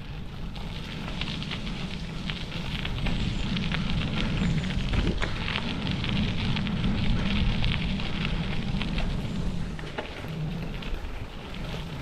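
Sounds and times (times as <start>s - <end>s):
bicycle tyres crackling on dirt: 0.0s - 12.0s
low rumble: 0.0s - 12.0s.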